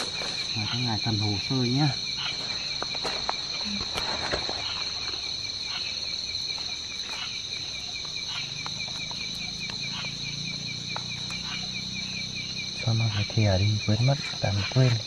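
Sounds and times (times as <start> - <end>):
night insects and crickets calling: 0.0 - 15.0.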